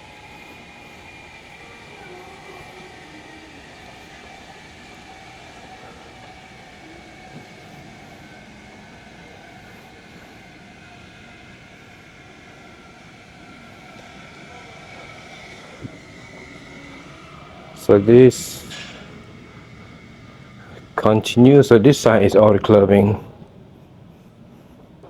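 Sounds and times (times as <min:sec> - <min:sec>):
faint whine tones: 0:00.0 - 0:25.0
ship machinery rumble: 0:00.0 - 0:25.0.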